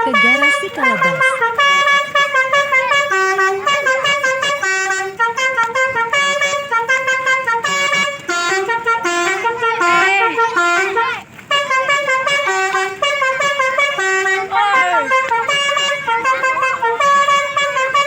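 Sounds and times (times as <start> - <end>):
melodic vehicle horn playing a tune: 0.0 - 18.0.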